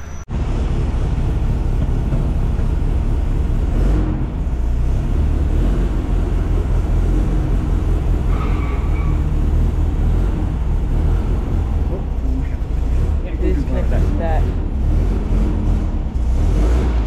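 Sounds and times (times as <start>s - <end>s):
engine idling with low rumble: 0.3s - 17.0s.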